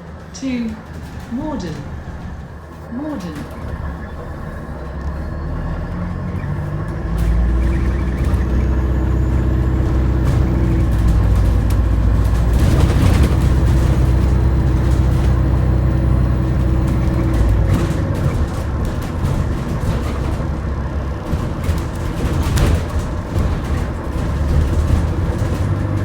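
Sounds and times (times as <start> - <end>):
bus engine drone: 0.0 - 26.0
drivetrain whining: 0.0 - 26.0.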